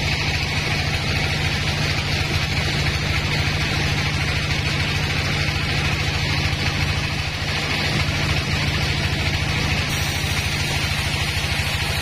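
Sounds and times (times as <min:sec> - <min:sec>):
band saw running: 0:00.0 - 0:12.0.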